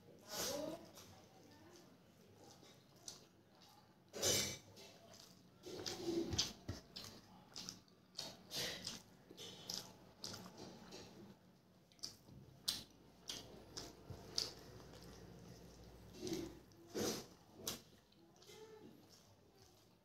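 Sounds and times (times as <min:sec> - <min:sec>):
wet chewing and lip smacks: 0:00.9 - 0:20.0.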